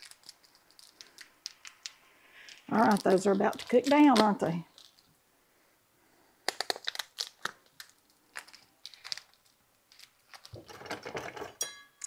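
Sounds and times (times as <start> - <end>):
plastic packaging crinkling: 0.0 - 5.1, 6.4 - 11.4.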